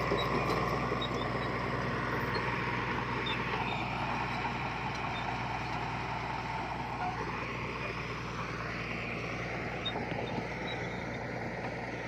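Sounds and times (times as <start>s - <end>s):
heavy diesel machinery engine: 0.0s - 12.0s.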